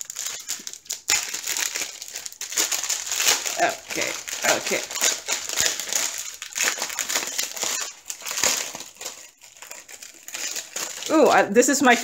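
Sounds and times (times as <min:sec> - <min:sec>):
plastic packet crinkling: 0:00.0 - 0:12.0.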